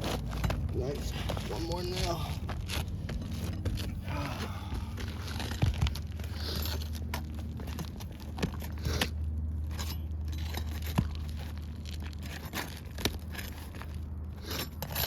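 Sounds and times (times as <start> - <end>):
shingle crackling: 0.0 - 15.0
steady low hum: 0.0 - 15.0.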